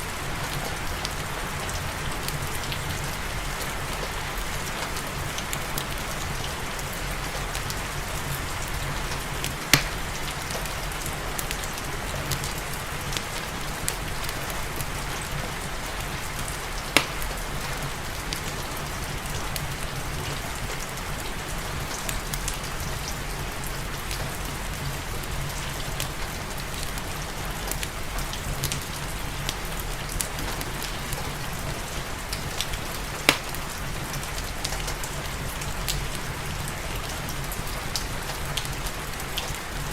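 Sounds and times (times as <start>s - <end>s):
steady rain: 0.0s - 39.9s
wood fire crackling and popping: 2.2s - 23.2s, 24.0s - 39.9s.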